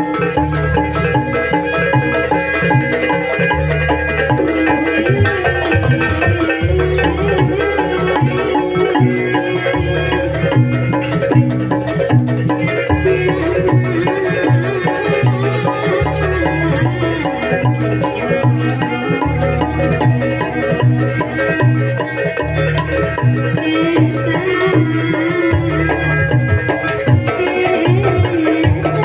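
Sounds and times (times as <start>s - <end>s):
violin wavering melody: 0.0s - 29.0s
wooden xylophones struck: 0.0s - 29.0s.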